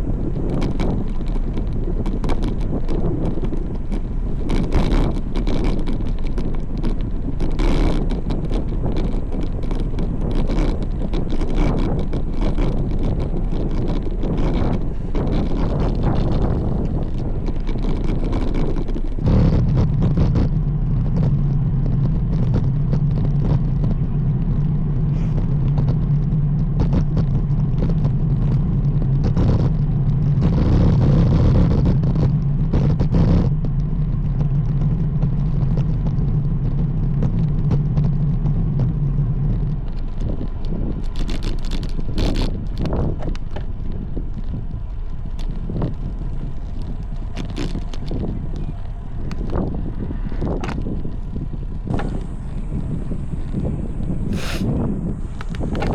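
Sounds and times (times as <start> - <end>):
low mechanical hum: 0.0 - 55.9
sharp crackles: 0.0 - 55.9
wind and road noise: 0.0 - 55.9.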